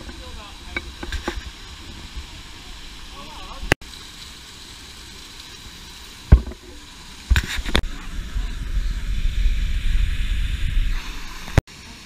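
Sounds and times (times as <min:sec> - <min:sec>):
falling water rumble: 0:00.0 - 0:12.0.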